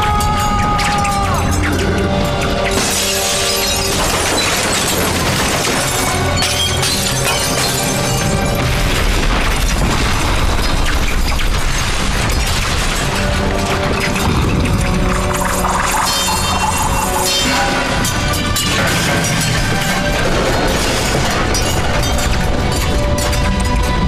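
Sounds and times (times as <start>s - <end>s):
film soundtrack music: 0.0s - 24.0s
crashing booming impacts: 0.8s - 24.0s.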